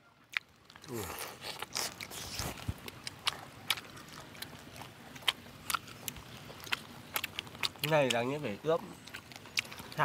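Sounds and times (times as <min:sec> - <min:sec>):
people chewing: 0:00.2 - 0:10.0.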